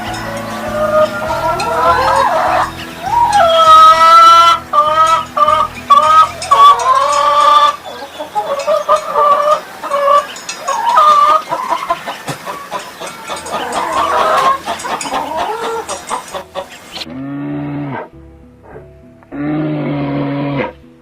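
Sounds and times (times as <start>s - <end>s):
hens clucking: 0.0s - 17.2s.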